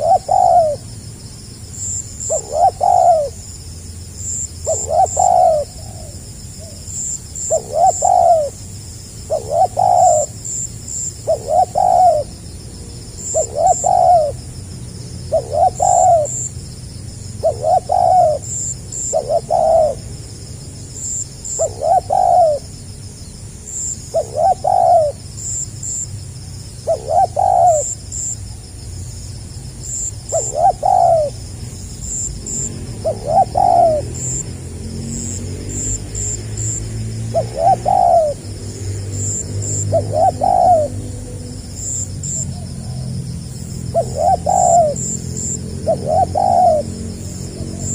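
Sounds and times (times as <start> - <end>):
dove cooing: 0.0 - 0.9, 1.8 - 3.5, 4.2 - 12.4, 13.1 - 14.4, 15.2 - 16.5, 17.4 - 20.1, 21.0 - 22.8, 23.8 - 26.0, 26.8 - 28.4, 29.9 - 34.5, 35.3 - 38.6, 39.2 - 47.9.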